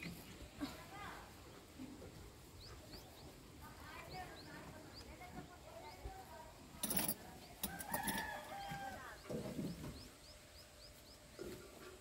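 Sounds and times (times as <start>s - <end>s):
small bird chirping: 2.3s - 11.9s.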